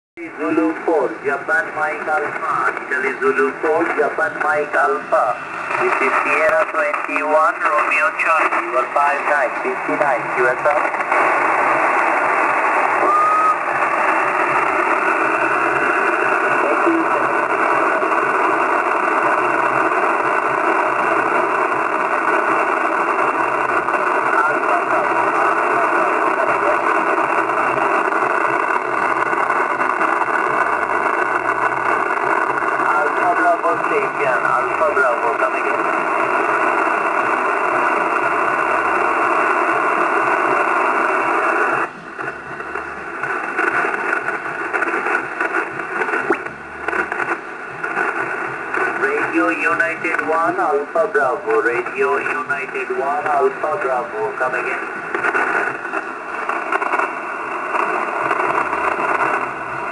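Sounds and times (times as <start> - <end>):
radio band noise hiss: 0.2 - 59.9.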